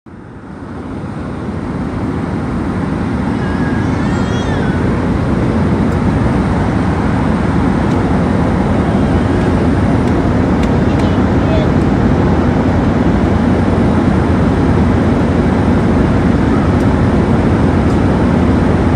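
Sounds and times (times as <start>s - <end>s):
airliner cabin roar: 0.1s - 18.9s.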